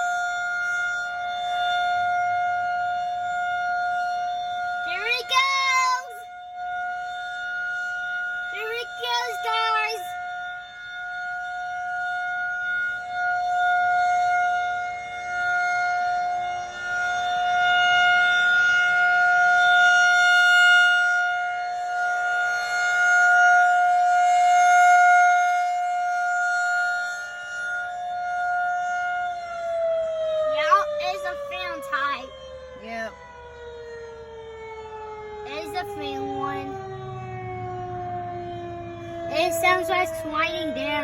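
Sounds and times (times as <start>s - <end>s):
tornado warning siren wailing: 0.0s - 41.0s.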